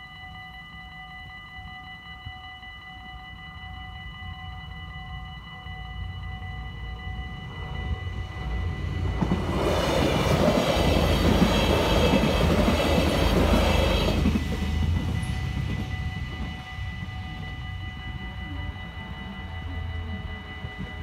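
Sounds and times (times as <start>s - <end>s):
crossing bells ringing: 0.0s - 21.0s
train rumble and wheel noise: 0.0s - 21.0s.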